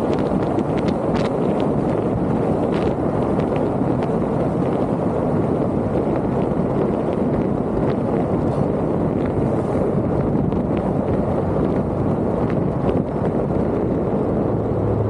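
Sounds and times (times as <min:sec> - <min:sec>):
vehicle road and wind noise: 0:00.0 - 0:15.0.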